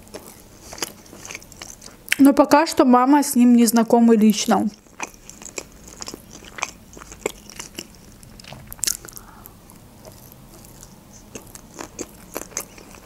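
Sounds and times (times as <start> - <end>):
chewing and crunching food: 0.0 - 2.2, 4.6 - 13.0.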